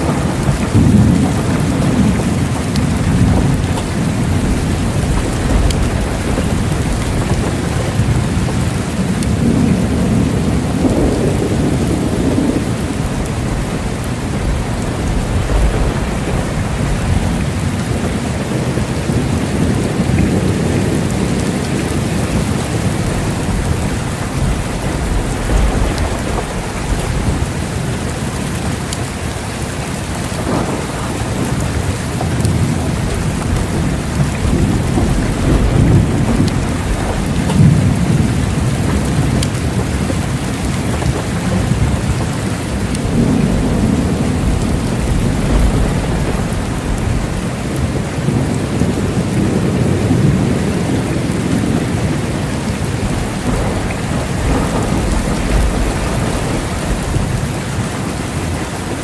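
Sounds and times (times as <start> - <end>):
heavy rain: 0.0 - 59.0
rolling thunder: 0.0 - 59.0.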